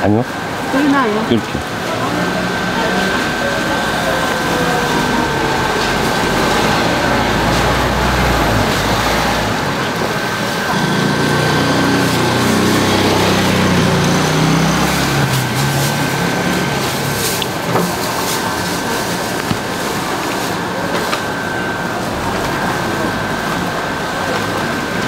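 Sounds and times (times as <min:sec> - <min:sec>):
deep engine drone: 0:00.0 - 0:25.0
loud background noise: 0:00.0 - 0:25.0
small engine running: 0:00.8 - 0:25.0.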